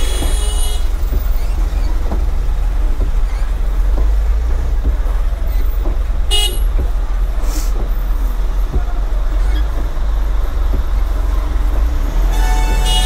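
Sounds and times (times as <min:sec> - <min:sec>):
diesel truck engine rumble: 0:00.0 - 0:13.0.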